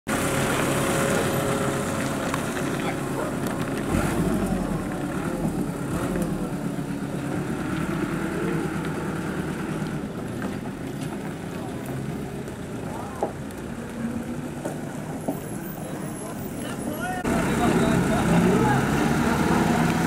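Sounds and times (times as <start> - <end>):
diesel truck engine running: 0.1 - 20.0.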